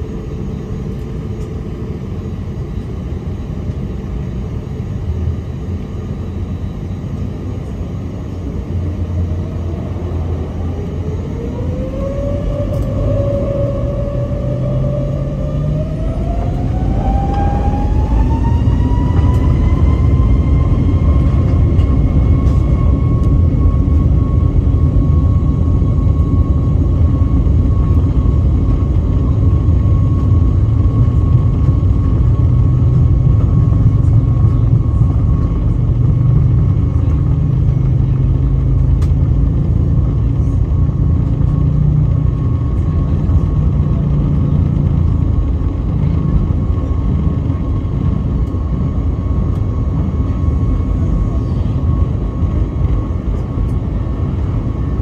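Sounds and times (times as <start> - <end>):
jet engine whine: 0.0 - 55.0
runway rumble: 0.0 - 55.0.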